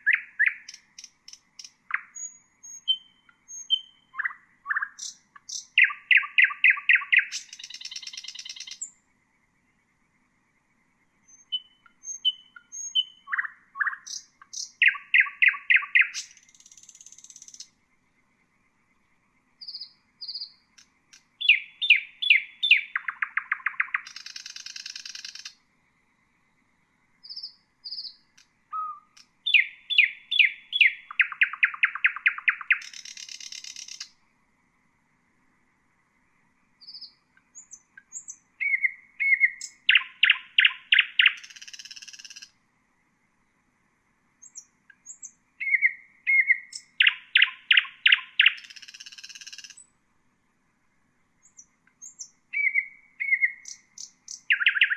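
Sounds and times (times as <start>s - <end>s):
nightingale singing: 0.0s - 34.3s, 36.7s - 42.6s, 44.3s - 50.0s, 51.4s - 54.9s.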